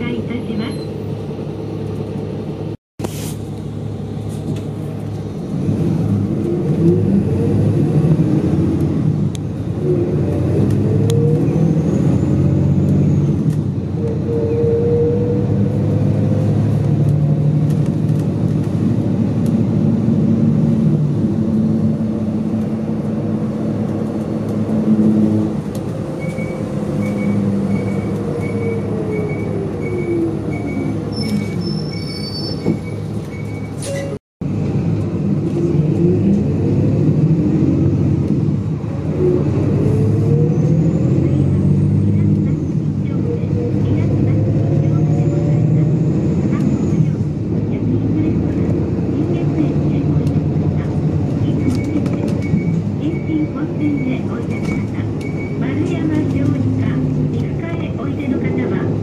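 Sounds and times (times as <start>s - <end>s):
bus engine droning: 0.0s - 59.0s.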